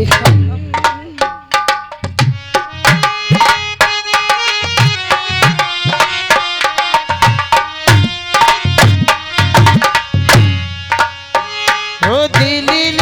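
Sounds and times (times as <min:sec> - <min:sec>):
hand drum rhythm: 0:00.0 - 0:13.0
held melodic instrument notes: 0:00.0 - 0:13.0.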